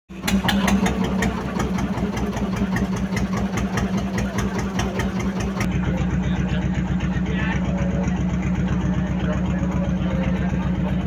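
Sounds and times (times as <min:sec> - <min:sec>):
engine idling with ticking clatter: 0:00.1 - 0:11.0.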